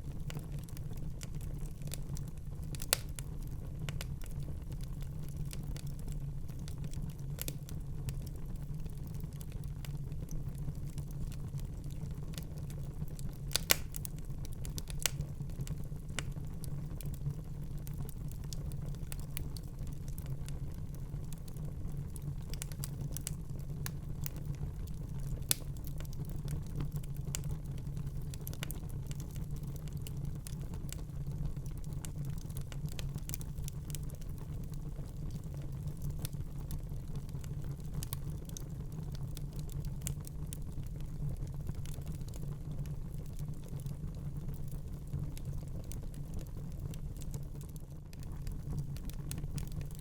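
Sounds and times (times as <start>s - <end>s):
low rumble of fire: 0.0s - 50.0s
wood fire crackling and popping: 0.0s - 50.0s.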